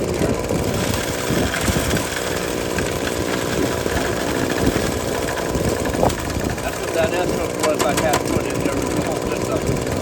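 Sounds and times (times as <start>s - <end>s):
small gasoline engine running: 0.0s - 10.0s.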